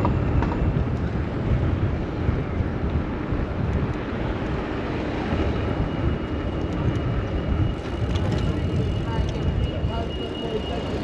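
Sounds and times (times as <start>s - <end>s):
city traffic: 0.0s - 11.0s
wind rumble on microphone: 0.0s - 11.0s.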